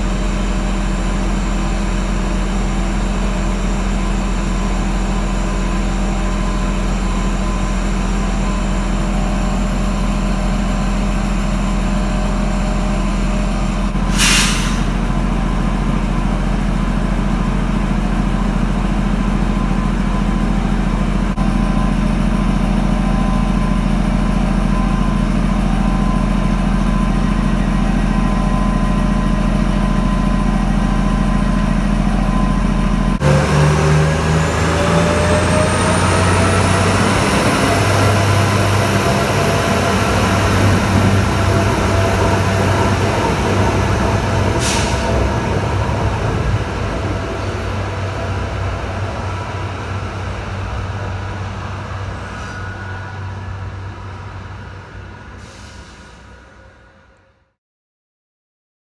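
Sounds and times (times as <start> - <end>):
diesel railcar engine: 0.0 - 57.6
rising train whine: 0.0 - 57.6.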